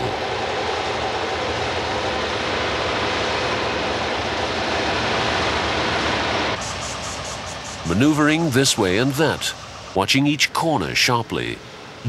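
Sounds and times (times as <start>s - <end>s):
faint whine: 0.0s - 12.0s
mechanical engine drone: 0.0s - 12.0s.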